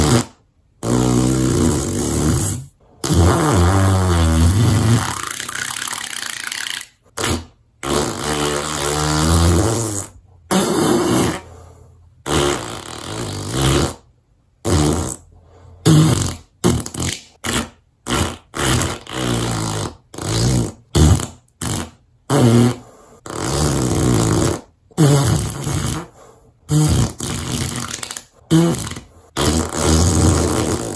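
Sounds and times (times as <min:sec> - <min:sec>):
fart sounds: 0:00.0 - 0:30.9.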